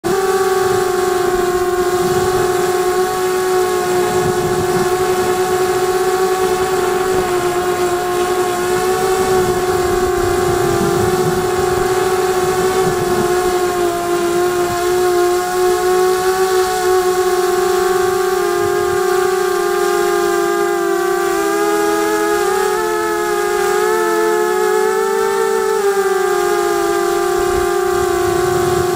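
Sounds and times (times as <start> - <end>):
quadcopter motors whining: 0.0 - 28.9.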